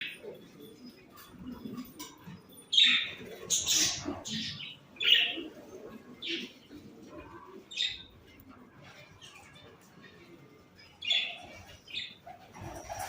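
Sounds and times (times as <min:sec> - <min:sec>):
pet birds chirping: 0:00.0 - 0:06.8, 0:07.6 - 0:08.4, 0:09.2 - 0:13.0.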